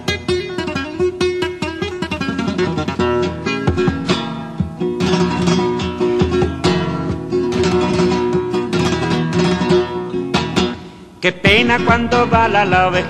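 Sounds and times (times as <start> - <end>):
acoustic guitar strumming and plucking: 0.0 - 13.0.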